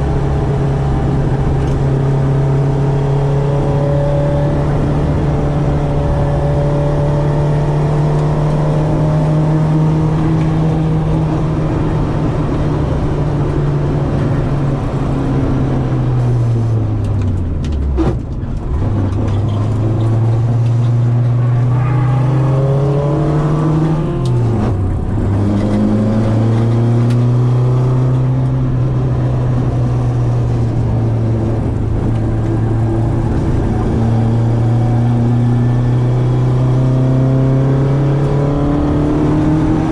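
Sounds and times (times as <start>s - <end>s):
car engine revving high: 0.0s - 14.1s, 19.7s - 39.9s.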